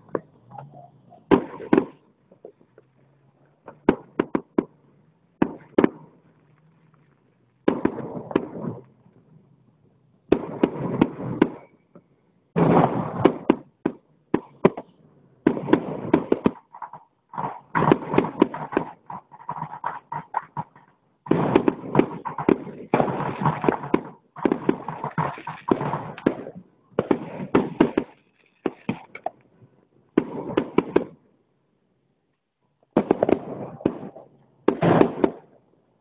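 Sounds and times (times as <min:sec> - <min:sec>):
fireworks bangs and crackling pops: 0:00.0 - 0:03.0, 0:03.6 - 0:31.2, 0:32.8 - 0:35.8.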